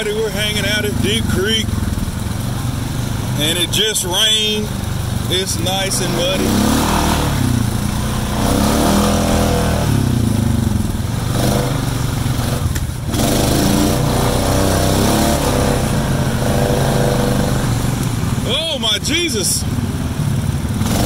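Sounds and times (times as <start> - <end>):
atv engine pulling through mud: 0.0 - 21.0.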